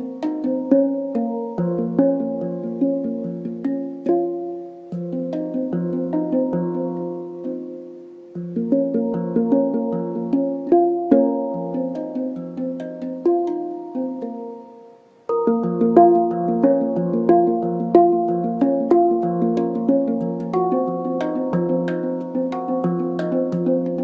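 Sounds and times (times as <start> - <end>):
handpan ringing notes: 0.0 - 24.0.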